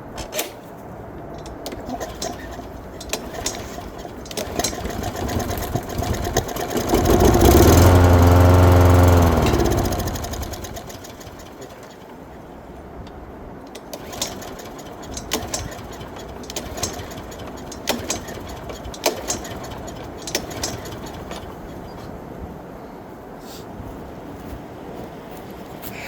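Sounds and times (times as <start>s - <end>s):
lawn mower engine stalling: 0.0s - 22.2s.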